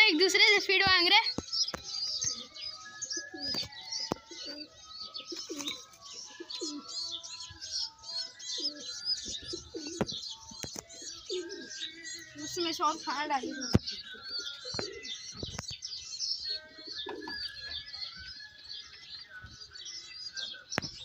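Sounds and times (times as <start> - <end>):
pigeons cooing: 1.3 - 21.0.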